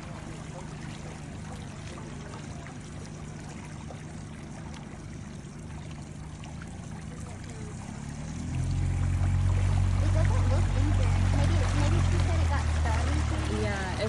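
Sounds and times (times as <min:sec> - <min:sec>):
boat motor humming: 0:00.0 - 0:14.0
water splashing and trickling: 0:00.0 - 0:14.0.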